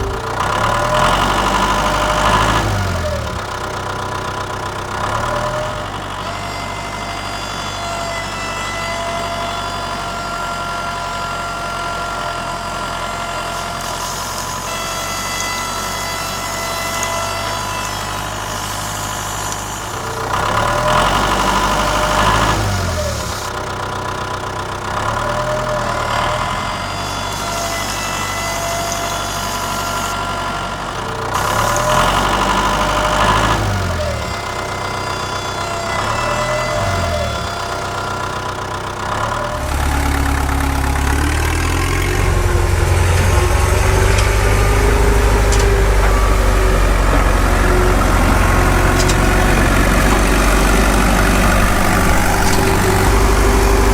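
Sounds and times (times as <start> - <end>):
machine humming and whining: 0.0 - 53.9.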